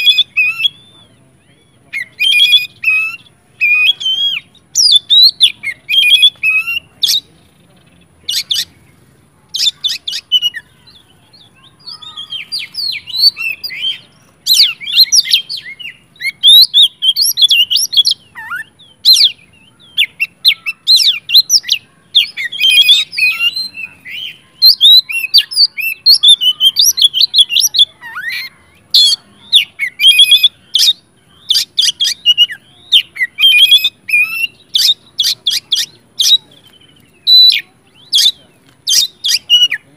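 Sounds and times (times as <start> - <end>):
bird singing whistled phrases: 0.0 - 7.3, 9.6 - 39.9.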